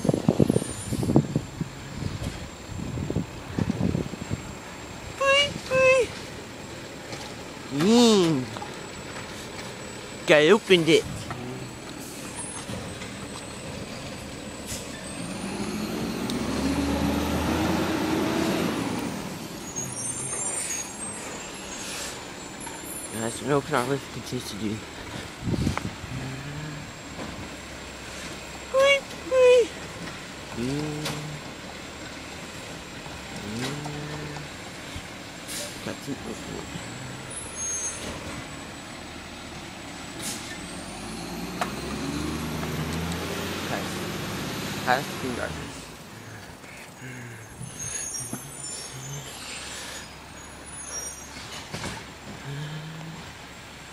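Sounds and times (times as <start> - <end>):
hydraulics whining: 0.0 - 53.9.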